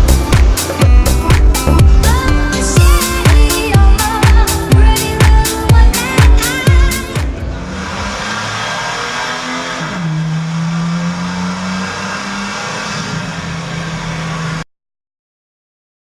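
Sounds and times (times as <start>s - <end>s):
car engine running: 0.0s - 14.6s.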